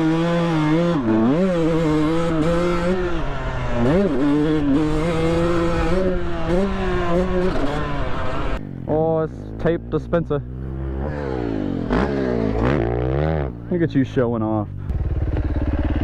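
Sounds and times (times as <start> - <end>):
dirt bike engine revving: 0.0 - 13.9, 14.8 - 16.0.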